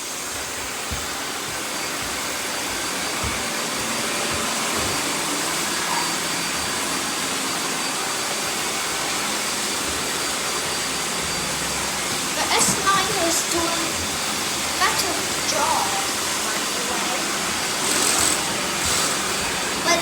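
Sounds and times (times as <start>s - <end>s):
robot vacuums running: 0.0s - 20.0s.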